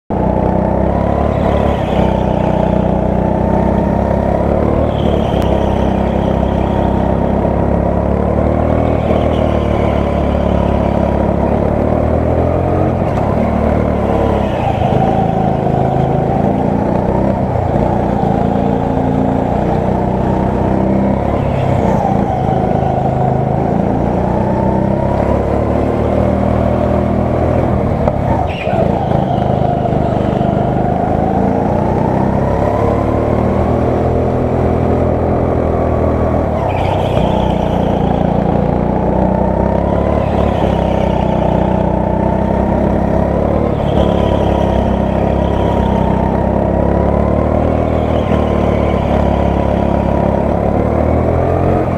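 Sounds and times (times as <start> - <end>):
go-kart engine accelerating: 0.1 - 51.9.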